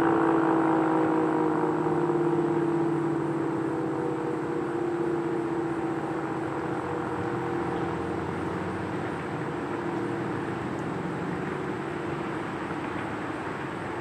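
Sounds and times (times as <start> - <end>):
two-note warning siren: 0.0 - 11.8.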